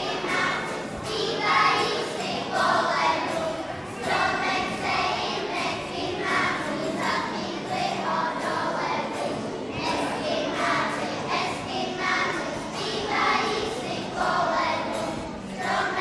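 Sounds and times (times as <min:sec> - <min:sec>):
children singing: 0:00.0 - 0:16.0
strummed acoustic guitar: 0:00.0 - 0:16.0.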